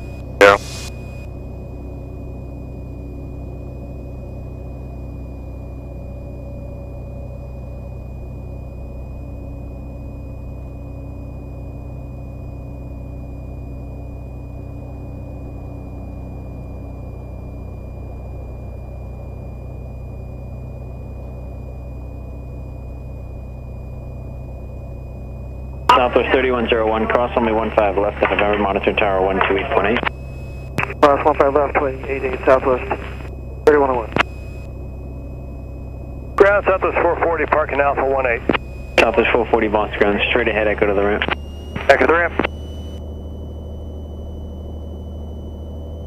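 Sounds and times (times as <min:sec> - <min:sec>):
high-pitched whine: 0:00.0 - 0:46.0
piston aircraft engine drone: 0:00.0 - 0:46.0.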